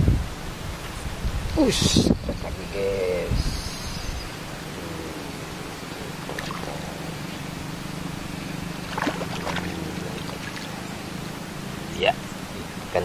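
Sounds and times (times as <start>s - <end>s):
trickling water: 1.5s - 13.0s
low motor drone: 2.4s - 13.0s.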